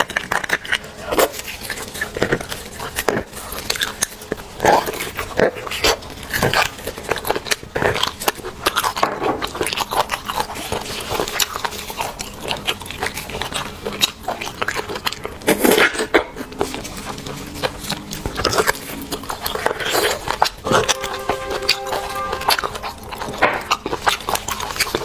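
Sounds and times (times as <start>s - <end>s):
person chewing bone marrow: 0.0s - 25.0s.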